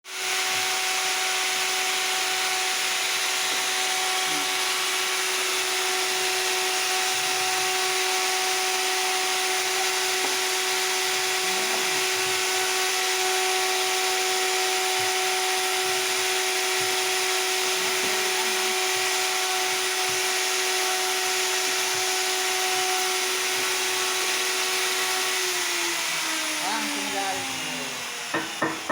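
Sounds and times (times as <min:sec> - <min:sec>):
power tool whining: 0:00.1 - 0:28.9.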